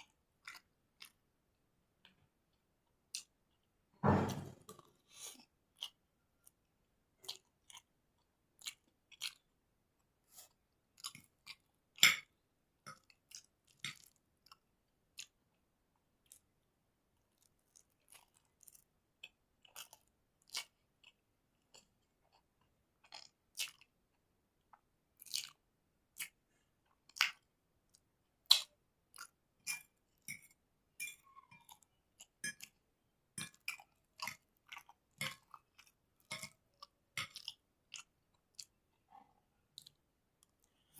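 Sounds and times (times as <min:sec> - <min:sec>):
chewing noodles: 0:00.0 - 0:01.3, 0:04.7 - 0:40.9.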